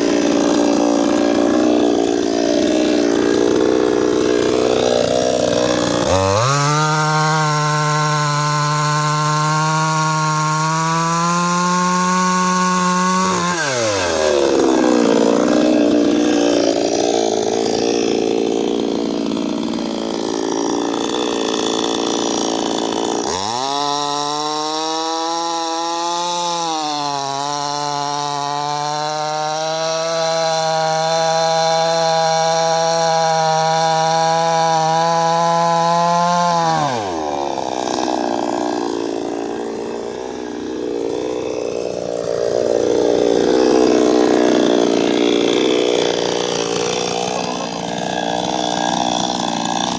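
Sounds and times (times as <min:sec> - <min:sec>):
chainsaw running: 0:00.0 - 0:49.9.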